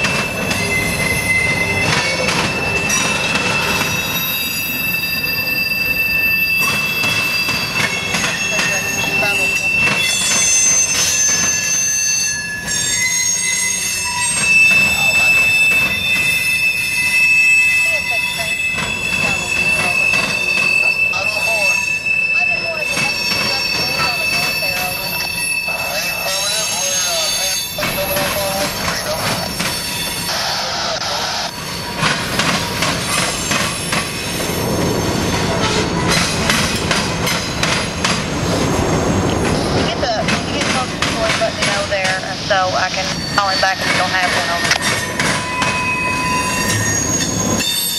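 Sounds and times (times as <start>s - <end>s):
rumble of passing train cars: 0.0s - 47.9s
steel wheels squealing on rail: 0.0s - 47.9s.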